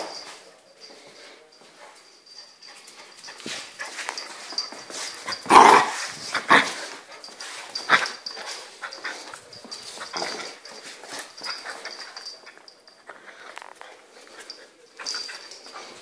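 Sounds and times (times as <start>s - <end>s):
puppy playful sounds: 0.0s - 16.0s.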